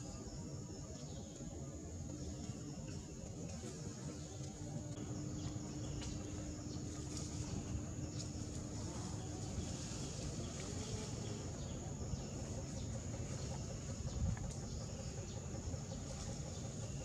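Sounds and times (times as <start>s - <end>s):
thin high hum: 0.0s - 17.0s.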